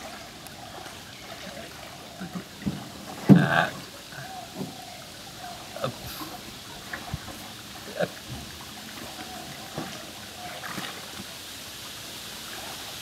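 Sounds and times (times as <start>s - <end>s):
steady hiss: 0.0s - 13.0s
water trickling and splashing: 0.0s - 13.0s.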